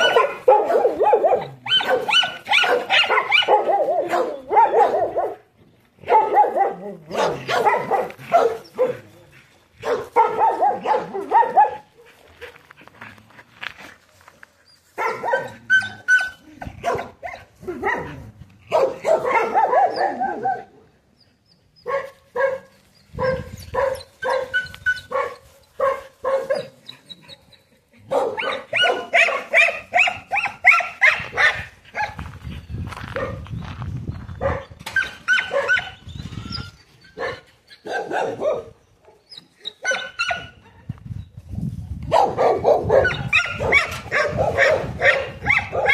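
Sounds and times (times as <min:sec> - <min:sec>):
dogs barking and yipping: 0:00.0 - 0:13.1, 0:14.2 - 0:41.0, 0:42.1 - 0:45.9.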